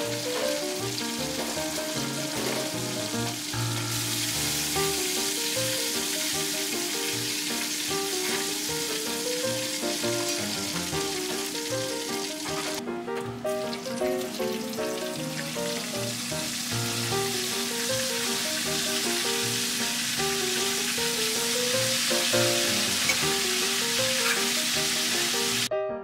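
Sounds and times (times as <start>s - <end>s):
food deep-frying in oil: 0.0s - 25.7s
background music: 0.0s - 26.0s.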